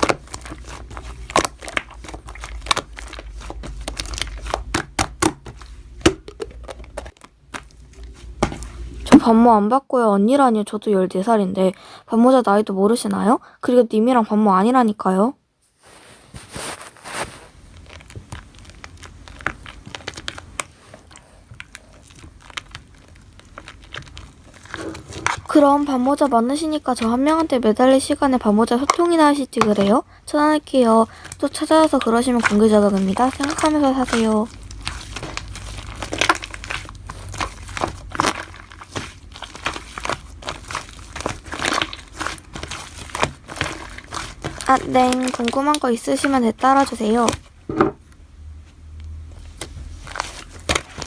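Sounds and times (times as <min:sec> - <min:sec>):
slime crackling and popping: 0:00.0 - 0:09.3, 0:17.1 - 0:47.7, 0:49.5 - 0:51.0.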